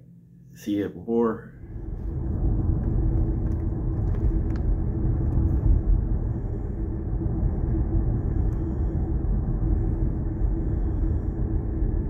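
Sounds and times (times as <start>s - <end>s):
faint steady hum: 0.0s - 12.0s
engine and tyres rumbling: 1.6s - 12.0s.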